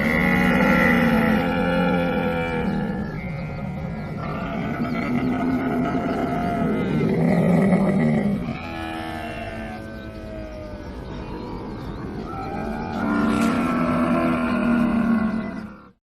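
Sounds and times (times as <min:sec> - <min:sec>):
camel calling: 0:00.0 - 0:16.0.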